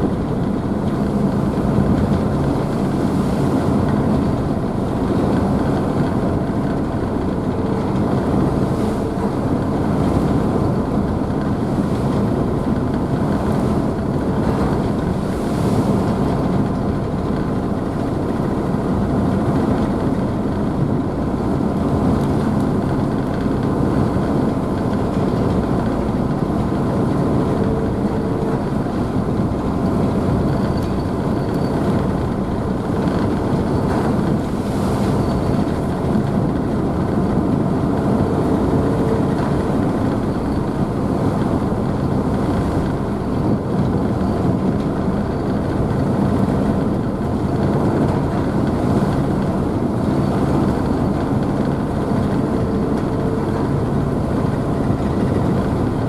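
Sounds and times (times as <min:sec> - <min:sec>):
rushing wake and spray: 0:00.0 - 0:56.0
ship engines droning: 0:00.0 - 0:56.0.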